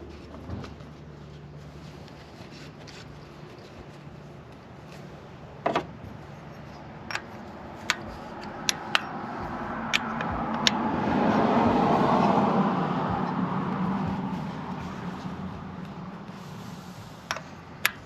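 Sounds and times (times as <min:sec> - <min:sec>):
rushing noise with low hum: 0:00.0 - 0:18.0.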